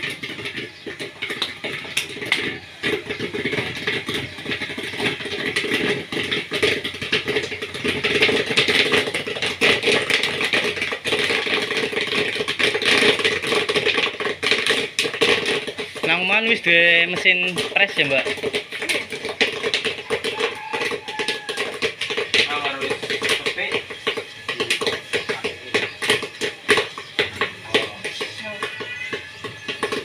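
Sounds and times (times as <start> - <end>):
popcorn popping: 0.0 - 30.0.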